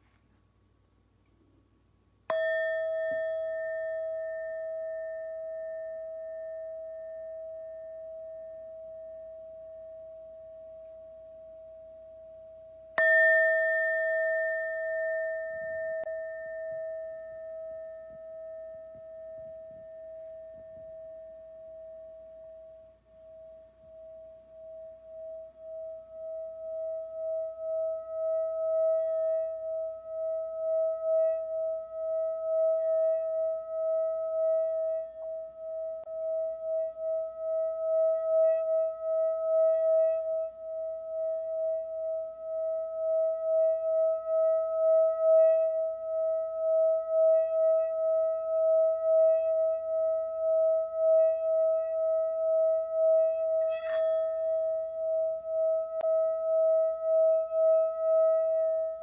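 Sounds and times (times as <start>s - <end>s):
singing bowl ringing: 2.3s - 59.0s.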